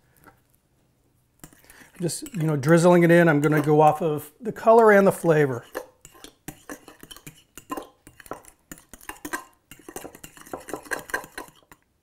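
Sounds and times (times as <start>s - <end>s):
utensil scraping against bowl: 1.4s - 11.8s.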